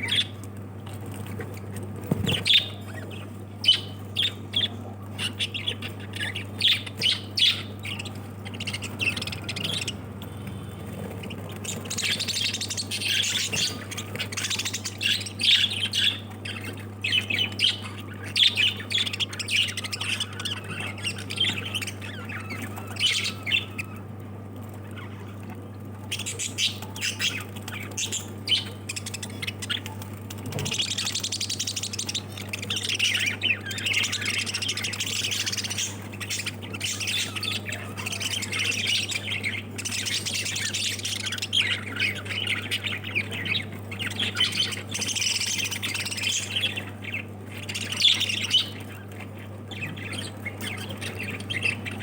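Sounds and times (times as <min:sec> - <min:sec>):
lovebirds calling: 0:00.0 - 0:52.0.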